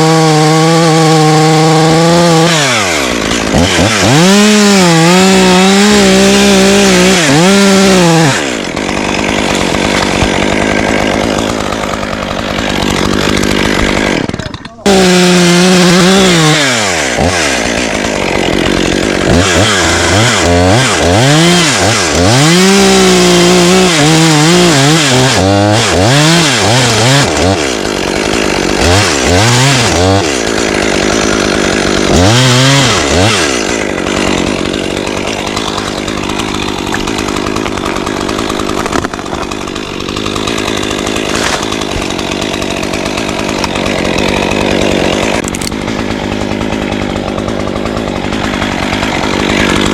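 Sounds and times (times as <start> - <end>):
chainsaw cutting wood: 0.0 - 49.9
chainsaw revving: 0.0 - 49.9.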